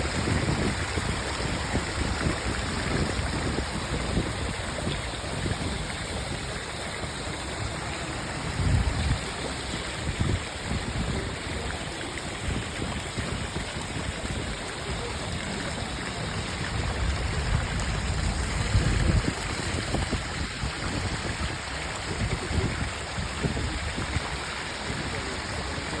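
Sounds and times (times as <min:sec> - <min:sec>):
wind buffeting microphone: 0:00.0 - 0:25.7
flowing water rushing: 0:00.0 - 0:26.0.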